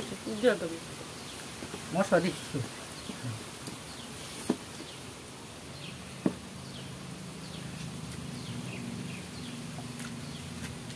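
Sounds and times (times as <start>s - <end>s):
insect buzzing: 0.0s - 10.9s.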